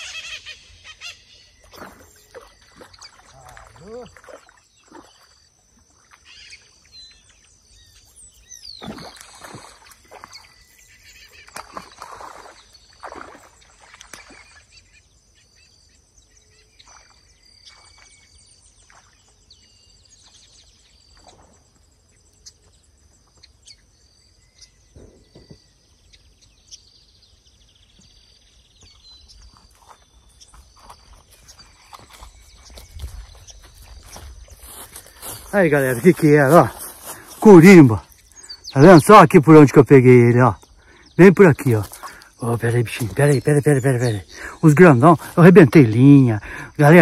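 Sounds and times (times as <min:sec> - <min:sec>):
birds calling and chirping: 0:00.0 - 0:47.0.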